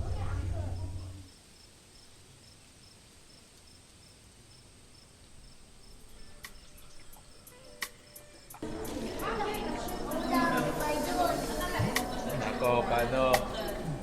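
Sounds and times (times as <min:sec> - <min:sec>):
insects chirping: 0:00.0 - 0:12.7.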